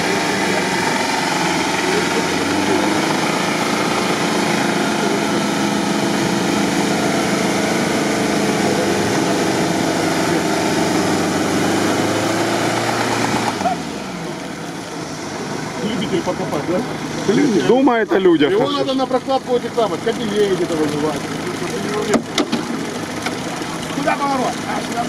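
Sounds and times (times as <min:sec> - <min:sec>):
off-road engine running hard: 0:00.0 - 0:25.0.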